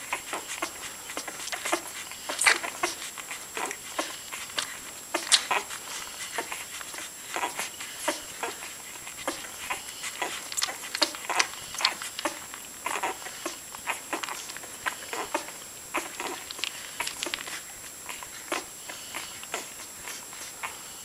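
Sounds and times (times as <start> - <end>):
puppies squeaking: 0.0 - 21.0
puppies suckling: 0.0 - 21.0.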